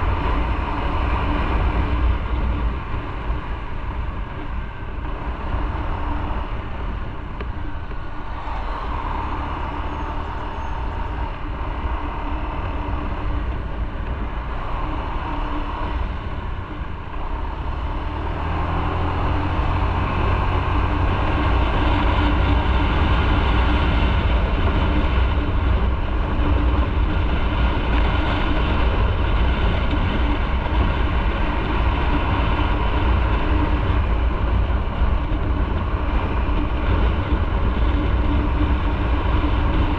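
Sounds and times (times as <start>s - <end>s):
motorcycle engine: 0.0s - 39.9s
wind and road rush: 0.0s - 39.9s.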